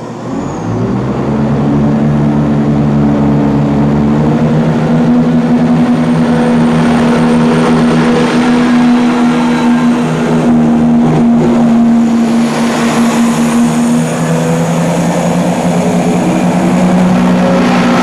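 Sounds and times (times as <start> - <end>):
diesel train engines running: 0.0 - 18.0.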